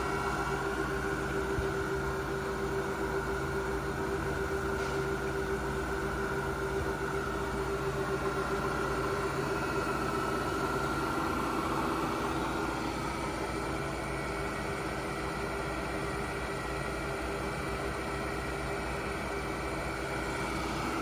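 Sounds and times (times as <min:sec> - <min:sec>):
milling machine hum and whine: 0:00.0 - 0:21.0.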